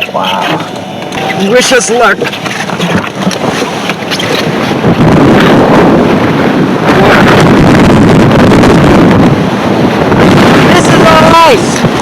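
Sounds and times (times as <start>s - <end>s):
blizzard wind buffeting microphone: 0.0s - 12.0s.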